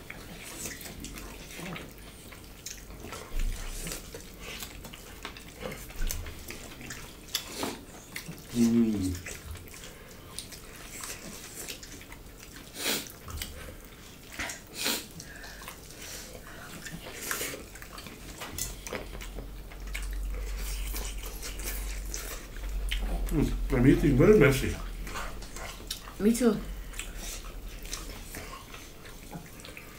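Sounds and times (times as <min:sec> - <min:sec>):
wet chewing and lip-smacking: 0:00.0 - 0:29.9.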